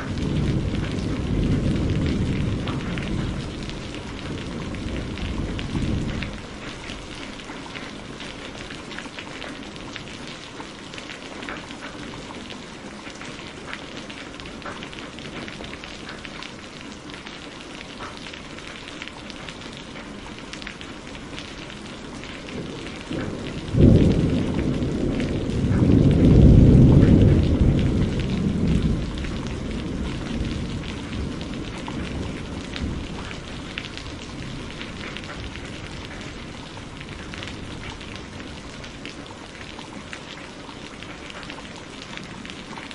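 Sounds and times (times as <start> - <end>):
steady rain: 0.0 - 42.9
thunderclap with rolling rumble: 0.0 - 42.9.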